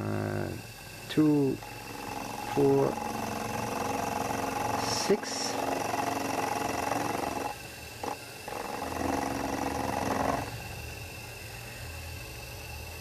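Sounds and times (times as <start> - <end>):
spindle motor humming: 0.0 - 13.0.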